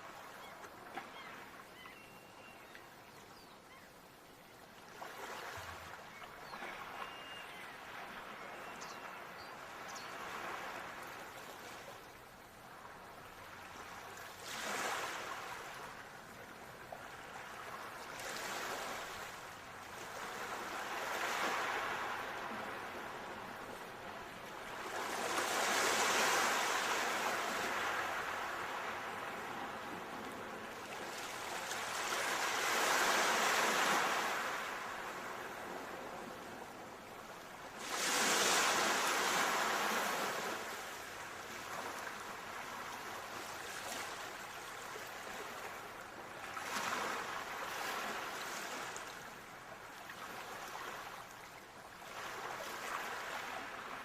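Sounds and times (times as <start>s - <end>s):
ocean waves breaking on shore: 4.8s - 54.0s.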